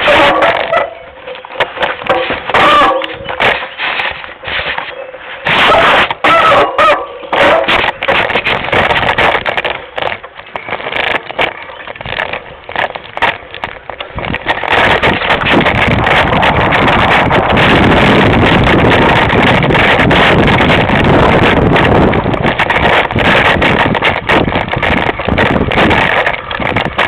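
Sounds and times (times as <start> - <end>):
mountain bike rattling on rough trail: 0.0 - 27.0
wind rushing over microphone: 0.0 - 27.0.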